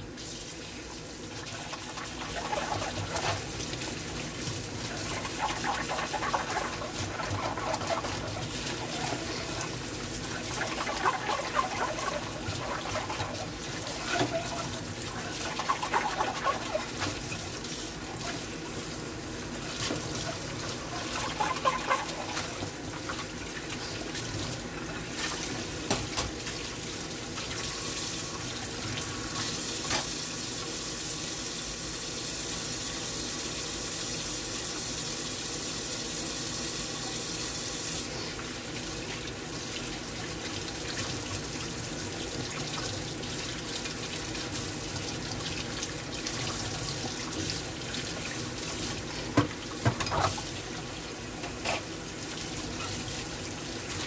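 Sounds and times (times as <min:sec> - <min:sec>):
tap water running into sink: 0:00.0 - 0:31.4, 0:36.6 - 0:54.0.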